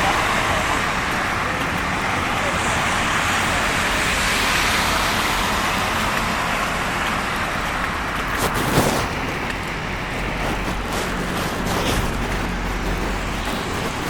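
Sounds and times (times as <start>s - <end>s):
car tyres hissing on snowy road: 0.0s - 14.0s.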